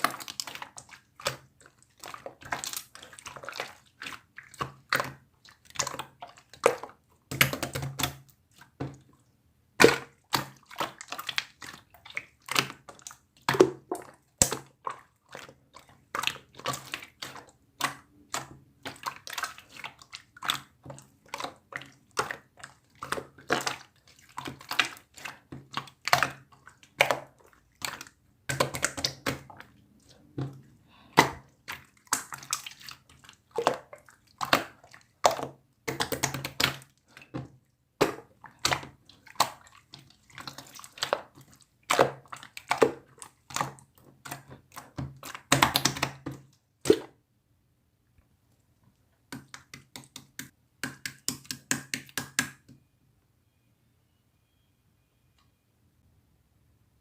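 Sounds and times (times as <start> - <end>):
slime squishing: 0.0 - 47.2.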